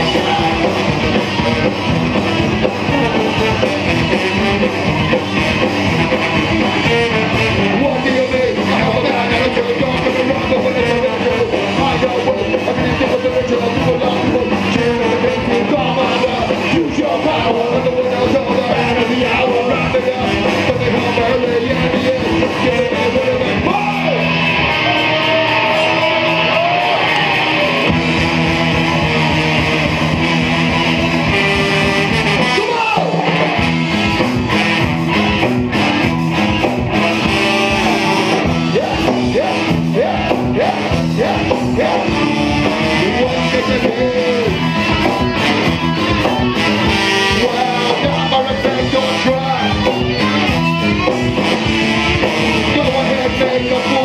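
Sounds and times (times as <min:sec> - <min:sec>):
ska-punk band playing live: 0:00.0 - 0:54.0.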